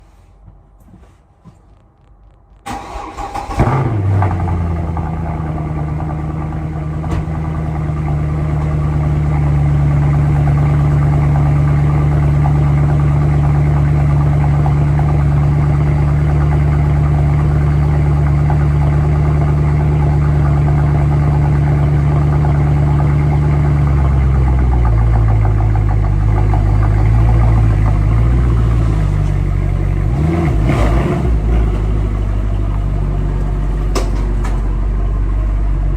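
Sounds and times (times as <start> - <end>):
car engine idling: 0.0 - 35.9
car engine starting: 1.7 - 35.9.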